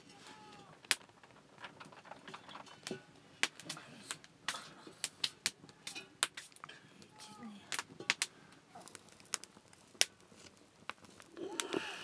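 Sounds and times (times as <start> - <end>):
sticks crackling in fire: 0.0 - 12.0.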